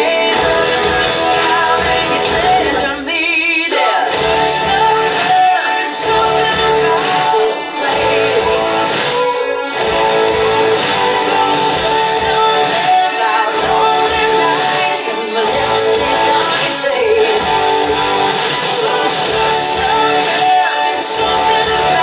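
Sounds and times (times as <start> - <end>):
guitar over steady beat: 0.0 - 3.0, 4.1 - 22.0.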